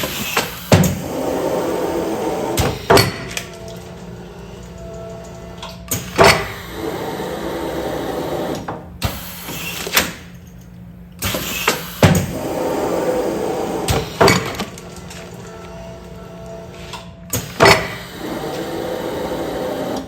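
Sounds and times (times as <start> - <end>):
machine running: 0.0 - 9.0, 11.9 - 20.0.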